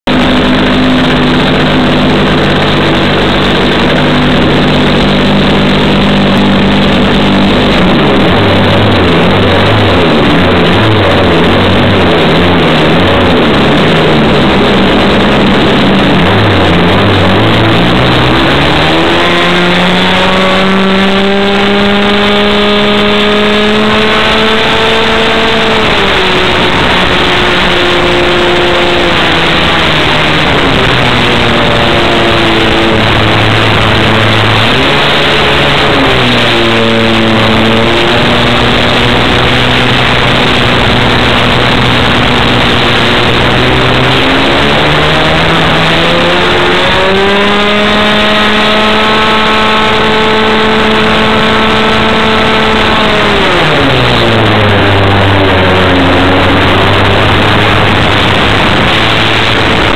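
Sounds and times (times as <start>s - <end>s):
wind rush: 0.0s - 59.9s
model plane engine: 0.1s - 48.1s, 48.9s - 59.9s.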